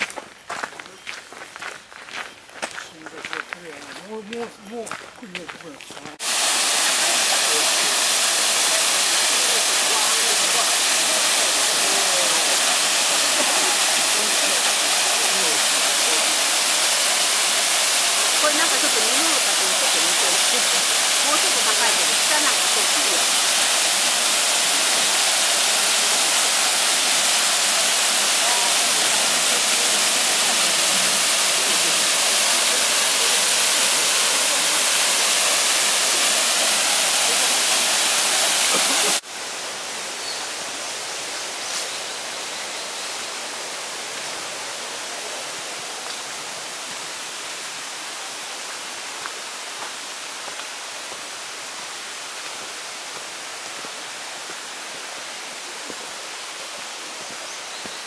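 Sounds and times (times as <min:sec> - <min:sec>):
running water: 0:03.2 - 0:58.0
waterfall rushing: 0:06.2 - 0:58.0.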